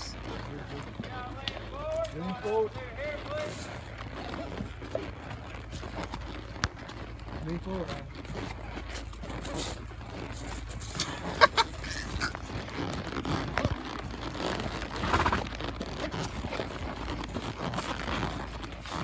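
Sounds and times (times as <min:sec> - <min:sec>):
hooves crunching dry leaves: 0:00.0 - 0:19.0.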